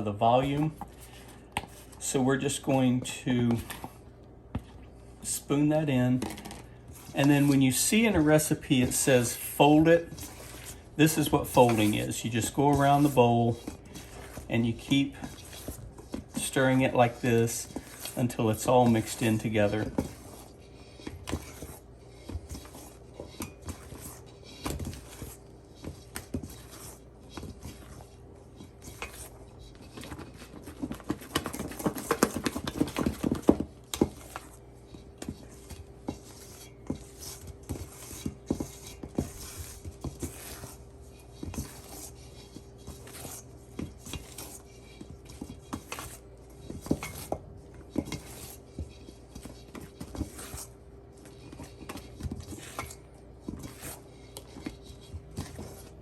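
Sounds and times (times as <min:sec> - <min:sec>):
utensil scraping a mixing bowl: 0:00.0 - 0:56.0.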